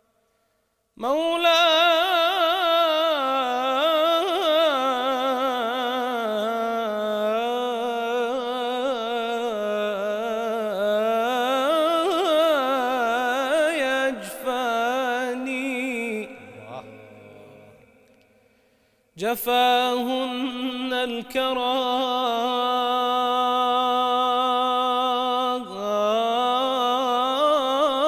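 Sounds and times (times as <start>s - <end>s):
man chanting: 1.0s - 18.0s, 19.2s - 28.0s.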